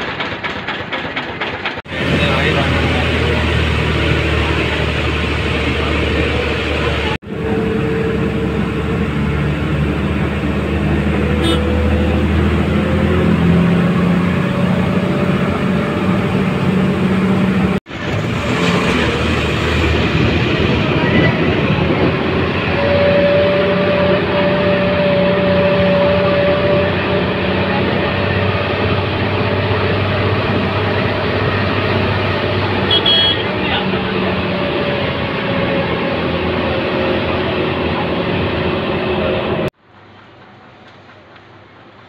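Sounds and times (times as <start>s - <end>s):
bus engine and road noise: 0.0s - 42.0s.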